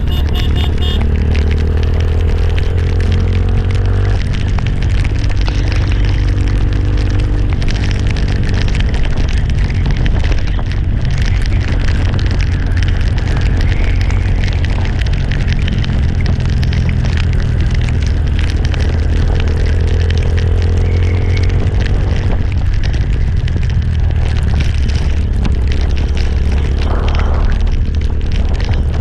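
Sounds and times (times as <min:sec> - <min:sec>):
motorcycle engine: 0:00.0 - 0:29.0
wind buffeting microphone: 0:00.0 - 0:29.0.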